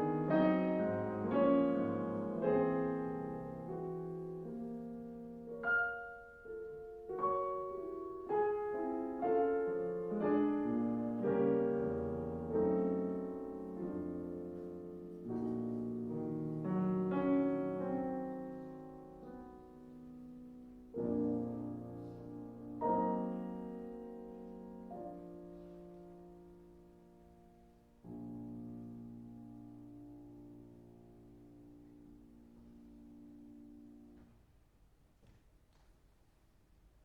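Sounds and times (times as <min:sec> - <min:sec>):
slow classical piano chords: 0:00.0 - 0:37.0.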